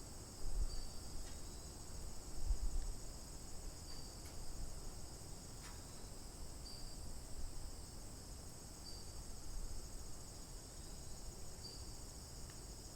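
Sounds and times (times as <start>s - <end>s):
crickets trilling: 0.0s - 12.9s.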